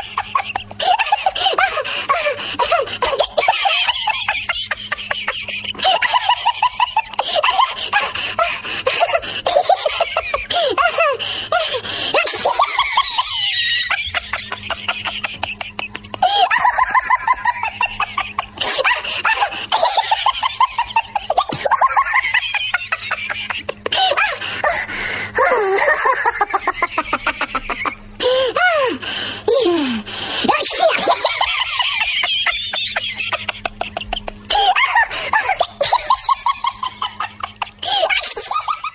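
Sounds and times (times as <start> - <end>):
person laughing: 0.0 - 38.9.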